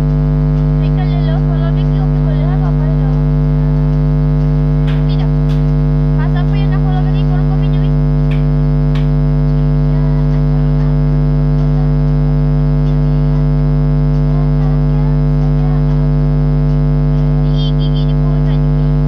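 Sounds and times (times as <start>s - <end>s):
steady electronic buzz: 0.0s - 19.0s.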